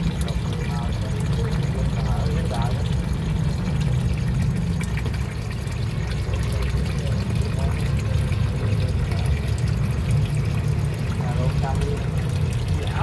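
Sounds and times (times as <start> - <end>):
aquarium water pouring: 0.0 - 13.0.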